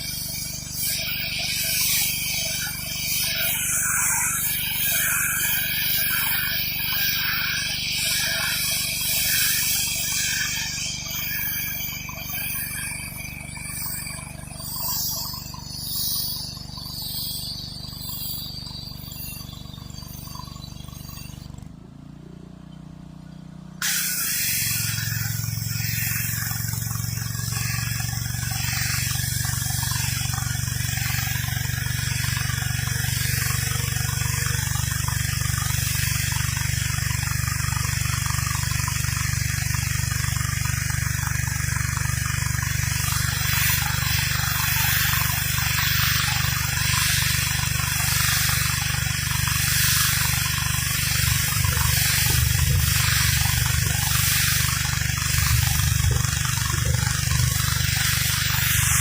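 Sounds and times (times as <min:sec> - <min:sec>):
water spray hissing on concrete: 0:00.0 - 0:21.4, 0:23.8 - 0:59.0
pressure washer engine running: 0:00.0 - 0:59.0.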